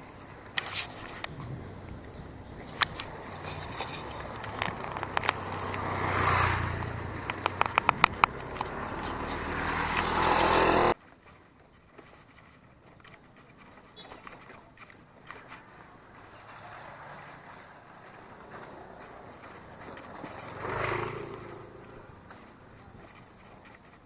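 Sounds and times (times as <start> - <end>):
vehicle engine humming: 0.0 - 11.0, 15.5 - 24.0
faint outdoor sounds: 0.0 - 24.0
sharp clicks and rattles: 0.0 - 24.0.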